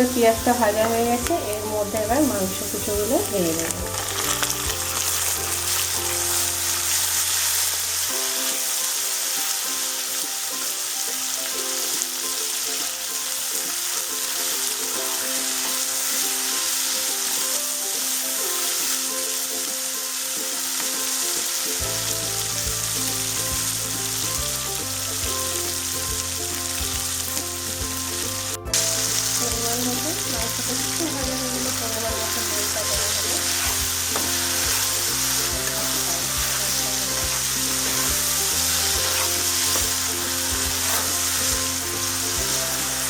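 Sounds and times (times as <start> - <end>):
background music: 0.0 - 43.0
chicken sizzling in oil: 0.0 - 43.0.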